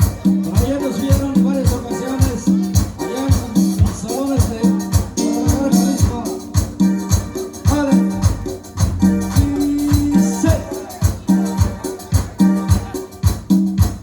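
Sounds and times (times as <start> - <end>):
cumbia music: 0.0 - 14.0
shaker percussion: 0.0 - 14.0.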